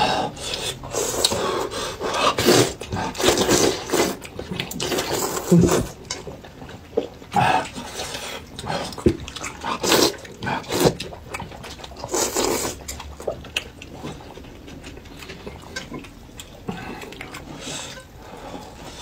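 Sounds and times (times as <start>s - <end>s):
chewing and mouth noises: 0.2s - 19.0s
noodles slurped: 0.2s - 19.0s.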